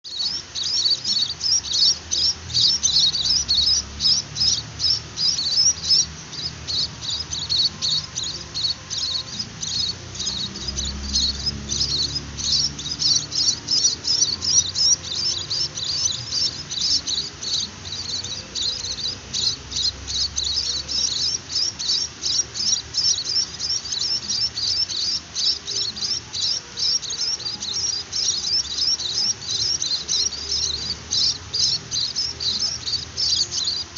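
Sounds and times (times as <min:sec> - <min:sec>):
chicks begging chirps: 0:00.0 - 0:33.9.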